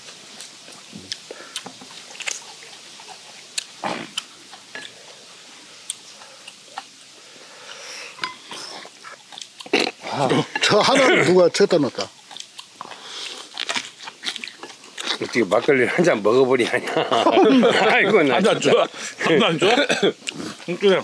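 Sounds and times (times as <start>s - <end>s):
men chewing: 0.0s - 21.0s.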